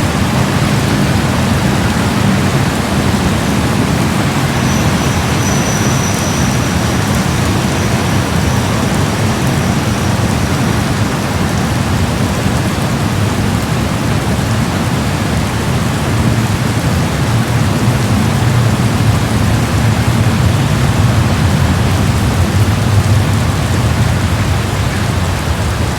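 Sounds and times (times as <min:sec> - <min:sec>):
heavy rain on concrete road: 0:00.0 - 0:25.9.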